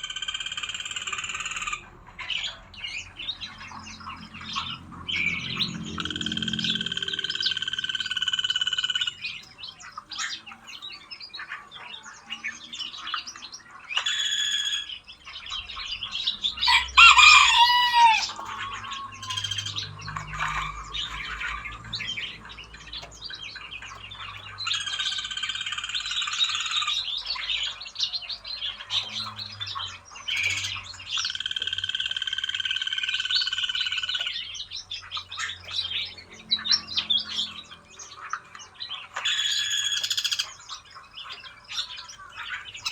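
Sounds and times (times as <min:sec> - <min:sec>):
birds chirping and calling: 0:00.0 - 0:42.9
harsh bird calls: 0:00.0 - 0:42.9.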